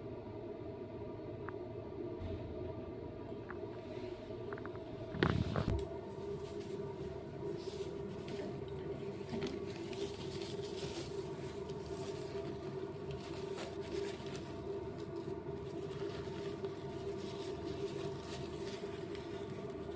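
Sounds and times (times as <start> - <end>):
steady low hum with hiss: 0.0 - 19.9.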